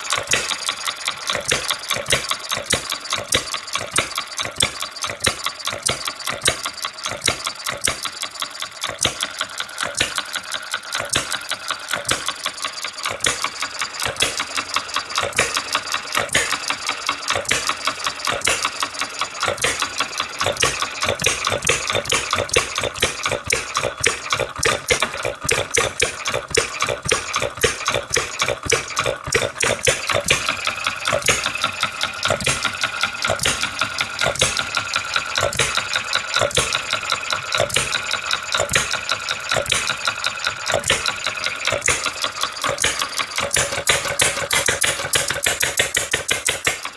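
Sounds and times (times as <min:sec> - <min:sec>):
model engine clattering: 0:00.0 - 0:46.9.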